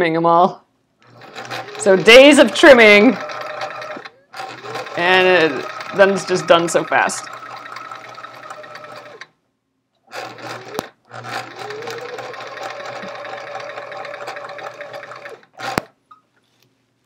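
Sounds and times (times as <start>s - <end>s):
sewing machine stitching: 1.0s - 9.3s, 10.1s - 15.9s.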